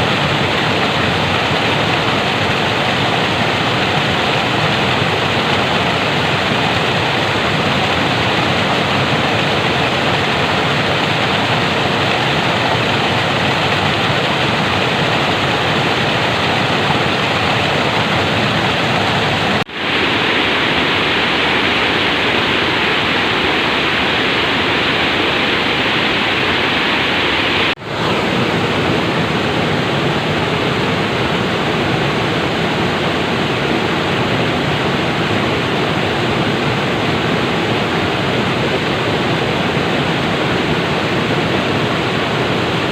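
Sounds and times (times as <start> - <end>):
water flowing: 0.0 - 42.9.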